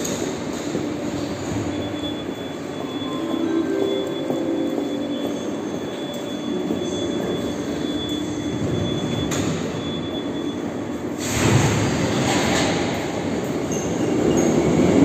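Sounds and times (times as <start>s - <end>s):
metro train wheels rumbling on rail: 0.0s - 15.0s.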